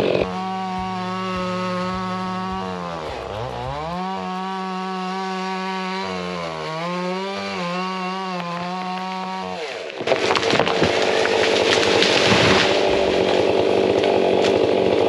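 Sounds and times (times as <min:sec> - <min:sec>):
chainsaw cutting tree trunk: 0:00.0 - 0:15.0.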